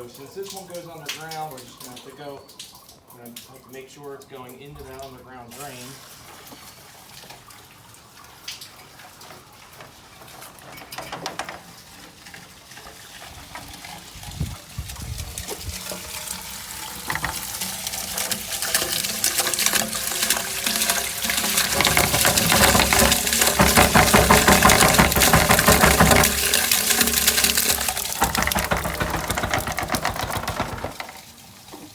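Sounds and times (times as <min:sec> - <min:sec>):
water rushing down a downspout: 0:00.0 - 0:31.9.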